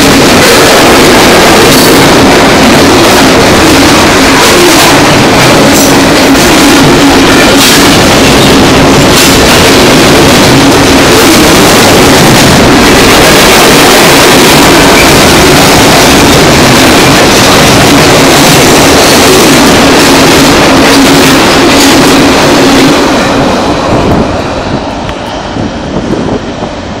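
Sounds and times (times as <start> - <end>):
freight train wheels on rails: 0.0 - 27.0.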